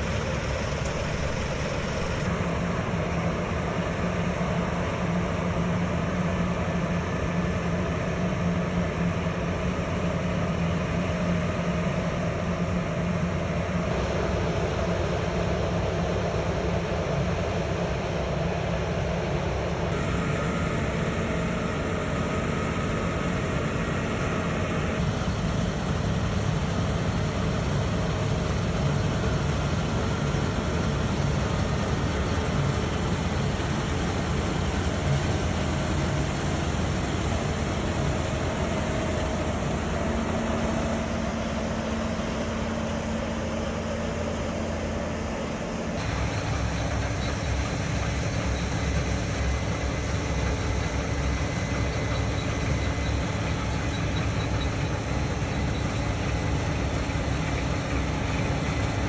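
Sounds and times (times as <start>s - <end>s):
combine harvester engine and threshing drone: 0.0s - 59.0s.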